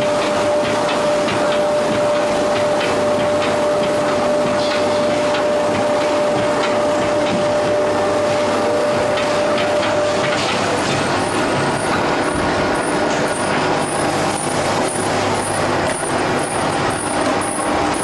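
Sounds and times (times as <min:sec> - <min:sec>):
lathe machine drone with whine: 0:00.0 - 0:18.0.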